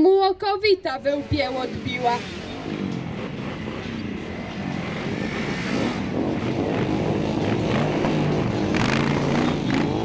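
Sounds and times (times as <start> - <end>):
motorcycle engines revving: 0.7 - 10.0.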